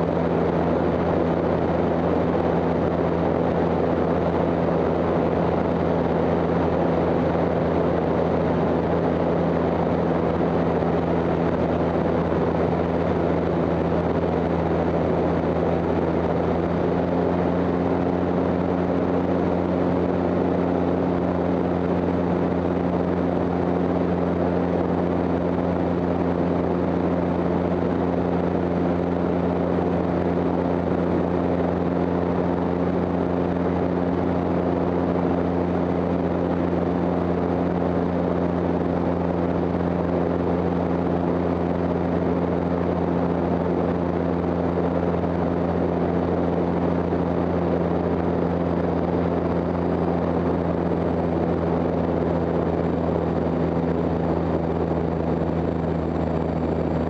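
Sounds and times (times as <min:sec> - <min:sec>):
propeller engines droning: 0:00.0 - 0:57.0.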